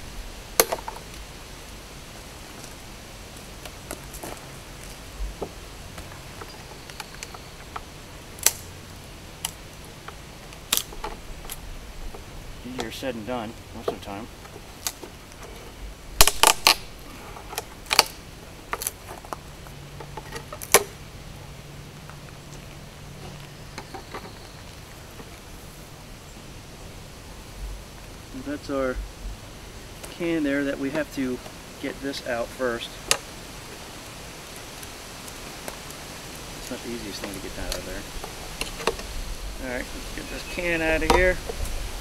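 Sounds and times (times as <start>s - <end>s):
steady outdoor hiss: 0.0s - 42.0s.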